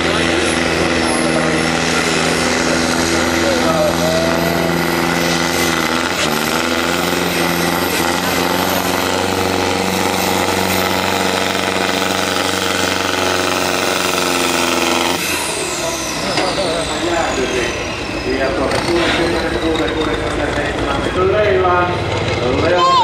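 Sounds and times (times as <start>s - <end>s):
tractor engine under heavy load: 0.0s - 23.0s.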